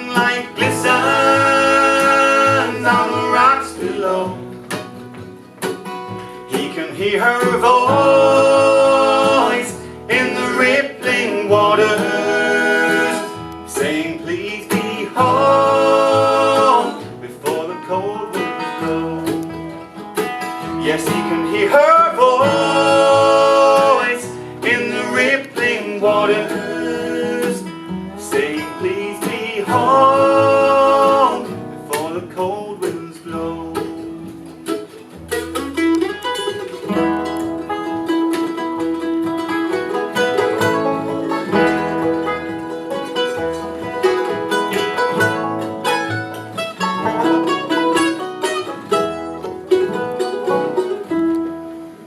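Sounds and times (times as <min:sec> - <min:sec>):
banjo and guitar picking: 0:00.0 - 0:52.0.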